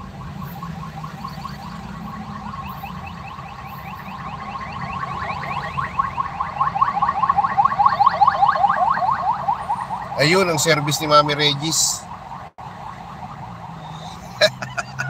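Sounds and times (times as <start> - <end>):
ambulance siren yelping: 0.0 - 15.0.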